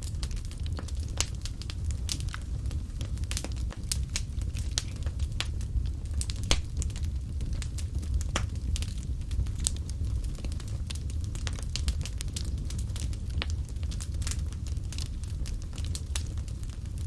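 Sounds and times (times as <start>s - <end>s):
fire crackling and popping: 0.0s - 17.0s
low fire rumble: 0.0s - 17.0s.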